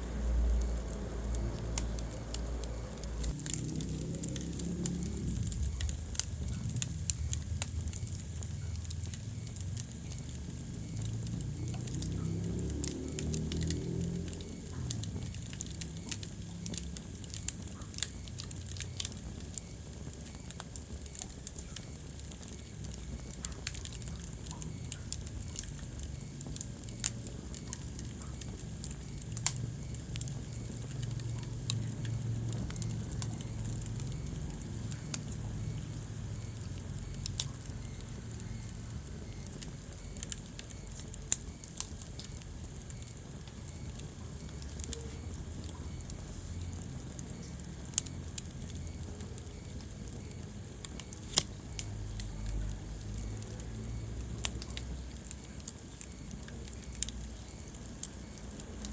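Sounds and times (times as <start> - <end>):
low rumble of flame: 0.0 - 58.9
wood fire crackling and popping: 0.0 - 58.9.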